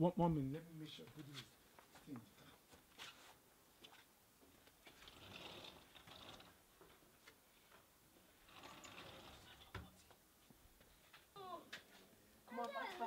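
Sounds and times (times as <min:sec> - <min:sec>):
soft rustling: 0:01.0 - 0:13.0.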